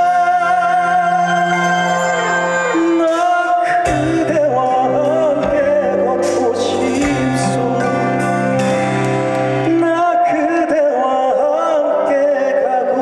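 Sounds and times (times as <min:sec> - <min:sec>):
man singing with vibrato: 0:00.0 - 0:08.7, 0:09.6 - 0:13.0.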